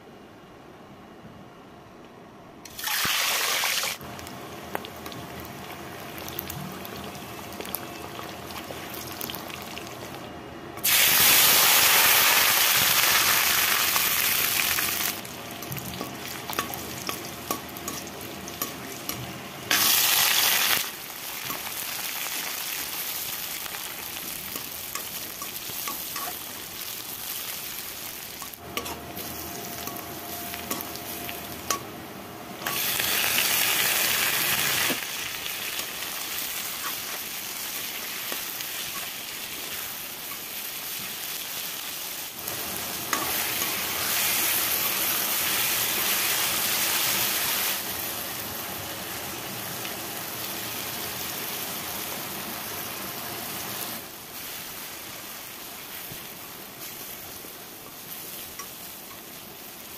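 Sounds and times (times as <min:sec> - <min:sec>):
oil sizzling in a wok: 0:02.7 - 0:10.2, 0:10.8 - 0:59.9.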